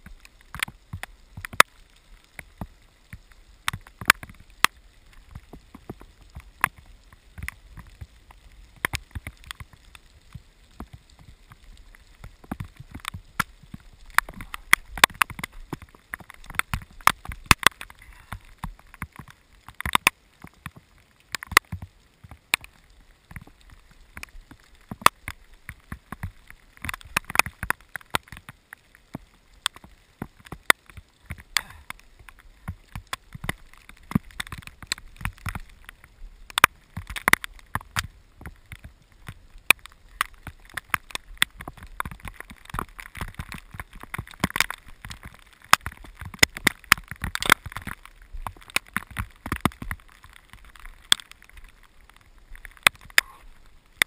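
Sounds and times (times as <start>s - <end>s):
rain pattering on camera: 0.0s - 54.0s.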